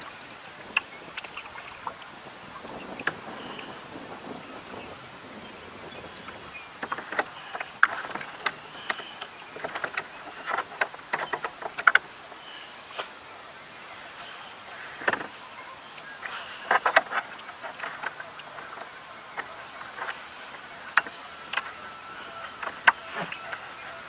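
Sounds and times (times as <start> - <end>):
wavelets lapping against kayak hull: 0.0 - 13.4, 14.0 - 24.0
steady background hiss: 0.0 - 24.0.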